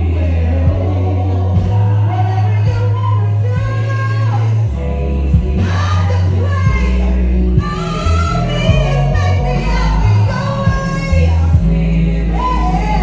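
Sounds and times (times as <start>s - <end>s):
amplified accompaniment with heavy bass: 0.0s - 13.0s
woman singing into microphone: 0.0s - 13.0s.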